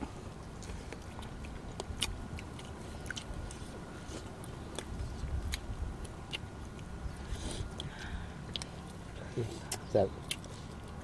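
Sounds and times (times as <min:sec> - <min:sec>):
low steady rumble: 0:00.0 - 0:11.0
people chewing food: 0:00.0 - 0:11.0.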